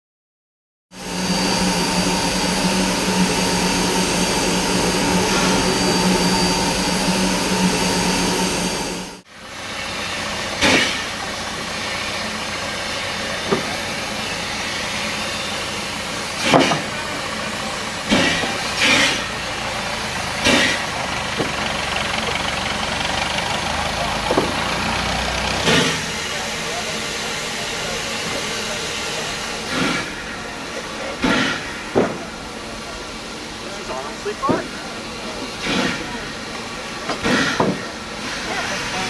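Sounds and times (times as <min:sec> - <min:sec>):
steam locomotive humming: 0:01.0 - 0:39.0.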